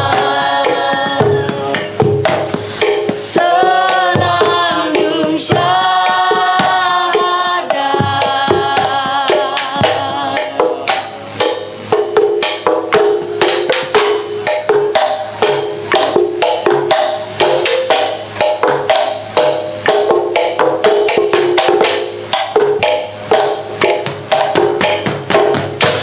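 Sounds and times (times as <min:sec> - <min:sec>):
found-object percussion ensemble: 0:00.0 - 0:26.0.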